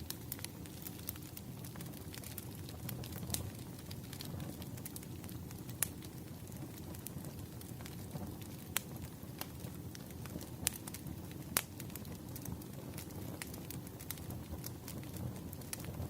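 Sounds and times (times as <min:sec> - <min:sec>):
low rush of flame: 0:00.0 - 0:16.0
wood fire crackling: 0:00.0 - 0:16.0.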